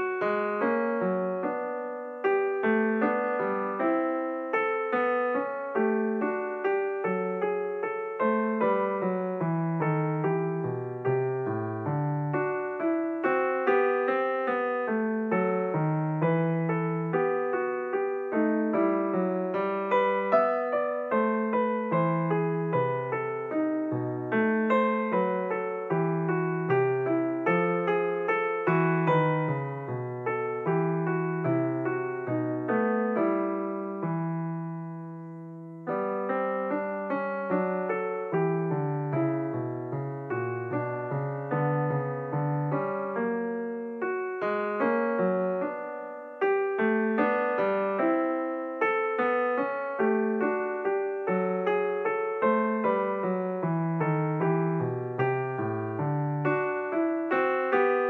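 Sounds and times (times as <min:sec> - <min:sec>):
slow piano music: 0:00.0 - 0:58.0.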